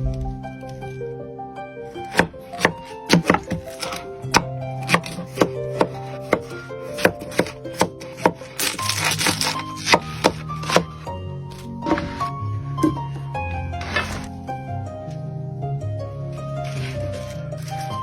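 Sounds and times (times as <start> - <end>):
gentle tavern-style music: 0.0 - 18.0.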